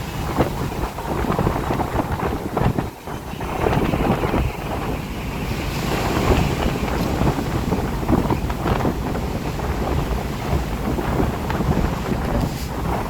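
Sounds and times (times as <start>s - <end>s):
gusty wind buffeting microphone: 0.0s - 13.0s
rain hiss: 0.0s - 13.0s.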